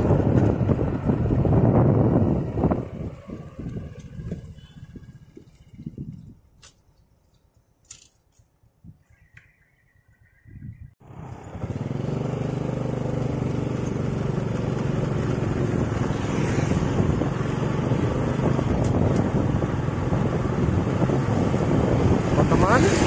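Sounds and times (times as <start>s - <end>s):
motorcycle engine: 0.0s - 6.5s, 11.0s - 23.0s
road noise: 0.0s - 23.0s.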